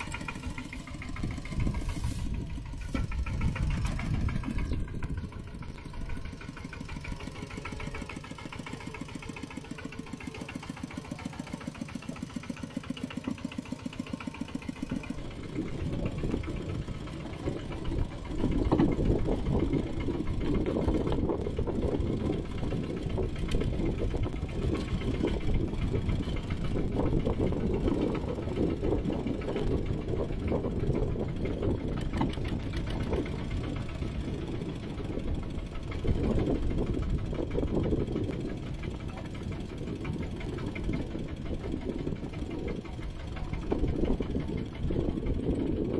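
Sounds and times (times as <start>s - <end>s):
tractor engine chugging: 0.0s - 45.9s.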